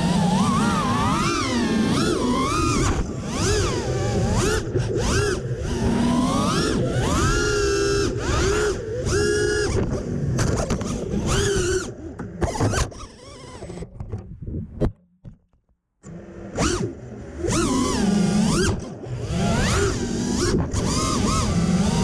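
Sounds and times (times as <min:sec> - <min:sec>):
drone motors whining: 0:00.0 - 0:14.9, 0:16.0 - 0:22.0.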